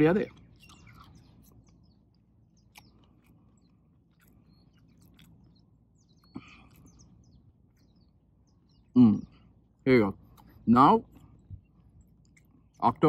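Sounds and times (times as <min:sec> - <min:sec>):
chewing mouth clicks: 0:00.2 - 0:09.4, 0:10.2 - 0:13.0.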